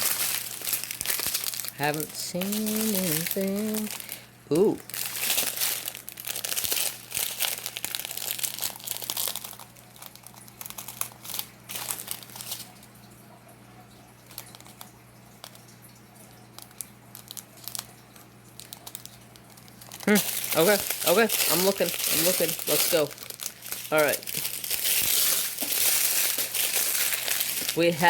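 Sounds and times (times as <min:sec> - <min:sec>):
plastic bags crinkling: 0:00.0 - 0:13.2, 0:14.2 - 0:28.0.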